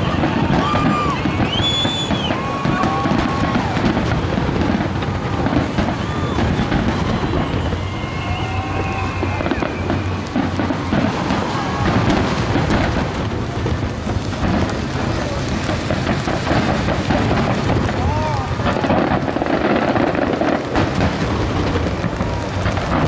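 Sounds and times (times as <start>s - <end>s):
firework crackling: 0.0s - 23.0s
firework shells booming: 0.0s - 23.0s.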